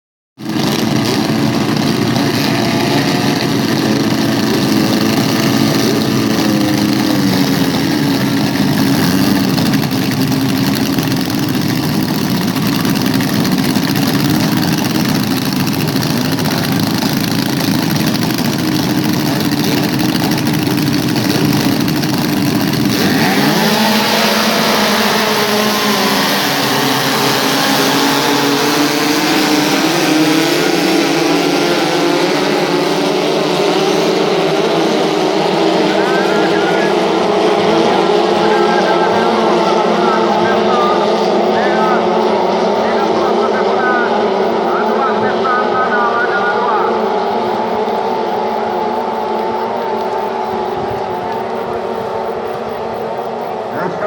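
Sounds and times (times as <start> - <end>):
racing boat outboard motors: 0.4 - 54.0.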